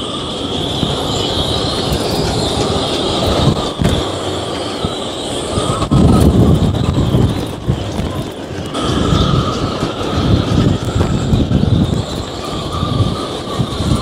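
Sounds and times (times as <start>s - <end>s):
faint high wind whistle: 0.0s - 14.0s
wind gusting against microphone: 0.0s - 14.0s.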